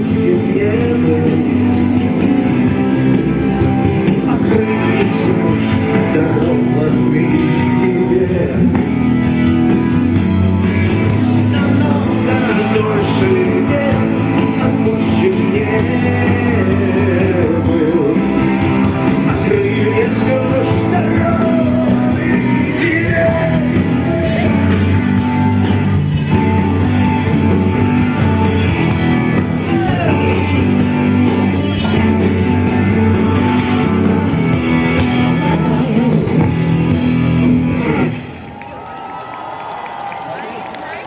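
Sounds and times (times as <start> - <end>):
bending lead guitar line: 0.0 - 38.5
live rock band playing: 0.0 - 38.5.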